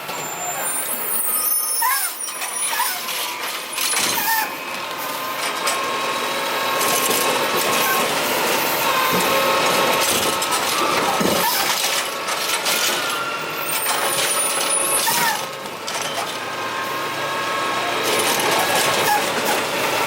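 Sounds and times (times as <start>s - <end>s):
garbage truck mechanical clatter: 0.0s - 17.2s, 17.8s - 20.0s.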